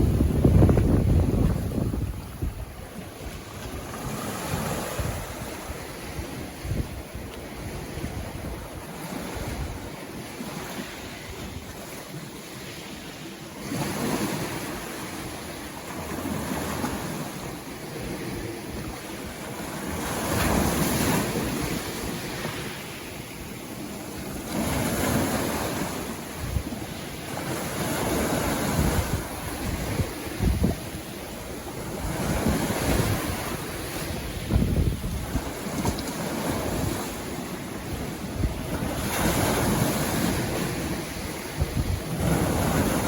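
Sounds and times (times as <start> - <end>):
sea waves breaking on beach: 0.0 - 43.0.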